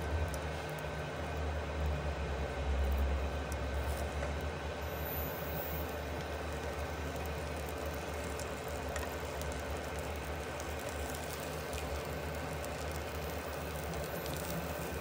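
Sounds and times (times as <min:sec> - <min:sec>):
electric cooktop hum and hiss: 0:00.0 - 0:15.0.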